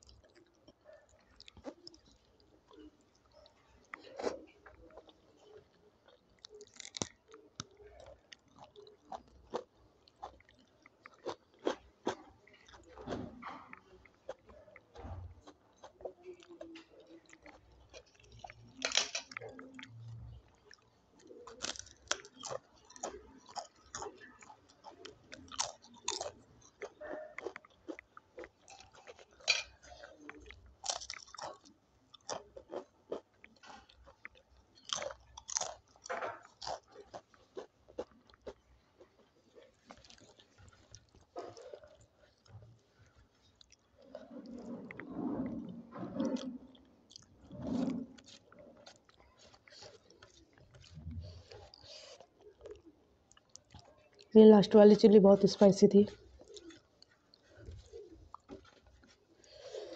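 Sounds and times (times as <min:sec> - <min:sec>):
person chewing crunchy food: 0:00.0 - 0:13.0, 0:13.7 - 0:45.2, 0:46.2 - 0:54.3, 0:56.1 - 0:59.9.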